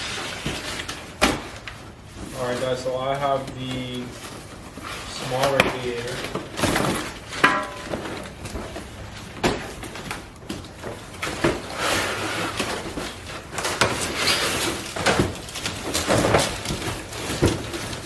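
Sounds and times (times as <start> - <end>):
packaging rustling: 0.0 - 18.0.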